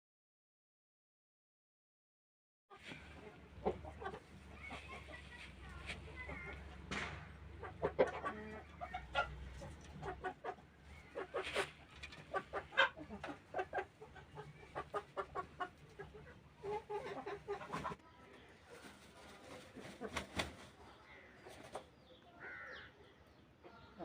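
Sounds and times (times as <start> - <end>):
chickens clucking: 2.7 - 24.0.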